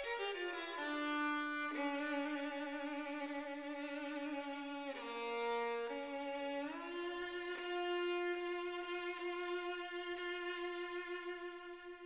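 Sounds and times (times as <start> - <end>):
slow violin music: 0.0 - 12.0.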